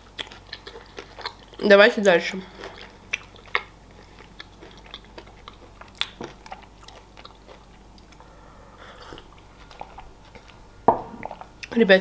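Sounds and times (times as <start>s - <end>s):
chewing mouth sounds: 0.1s - 1.7s, 2.5s - 8.3s, 8.9s - 10.6s, 11.2s - 11.8s.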